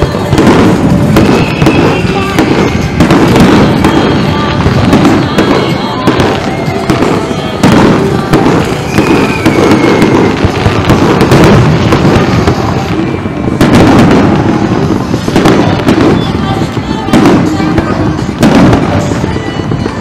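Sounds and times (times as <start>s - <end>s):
firework shells bursting: 0.0s - 20.0s
fireworks crackling: 0.0s - 20.0s.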